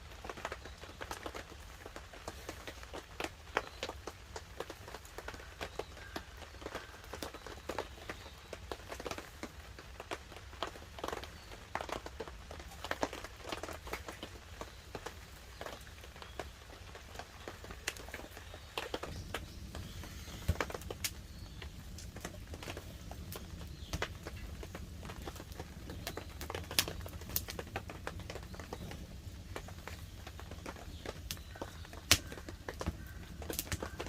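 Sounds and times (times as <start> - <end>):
campfire crackling and popping: 0.0 - 34.0
rain pattering on a tarp: 0.0 - 34.0.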